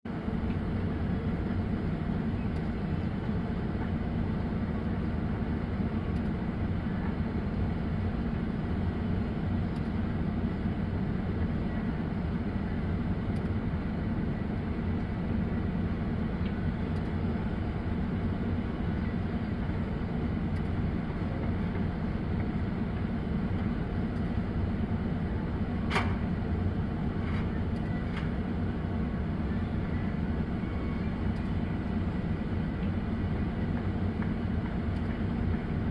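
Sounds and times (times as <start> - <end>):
heavy diesel engine running: 0.1 - 35.9.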